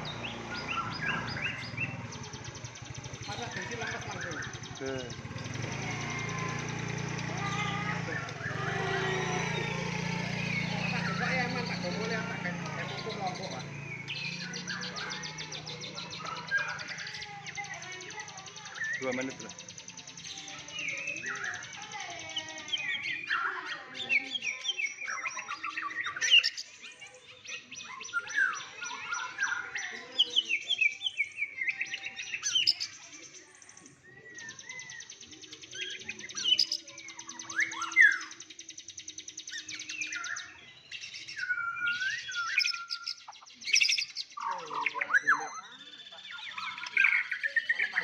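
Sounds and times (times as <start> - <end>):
songbird singing: 0.0 - 48.0.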